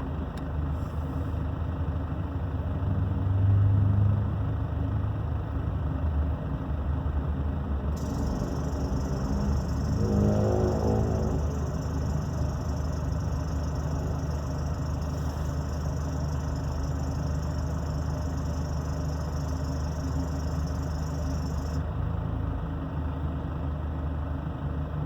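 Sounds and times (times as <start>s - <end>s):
diesel engine idling: 0.0s - 3.4s, 4.0s - 25.0s.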